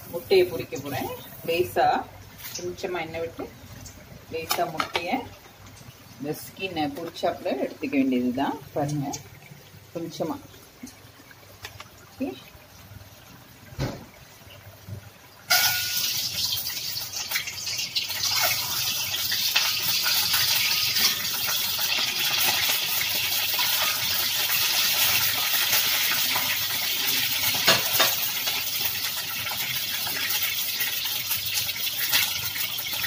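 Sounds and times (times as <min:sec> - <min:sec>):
eggs sizzling in hot oil: 0:00.0 - 0:33.0.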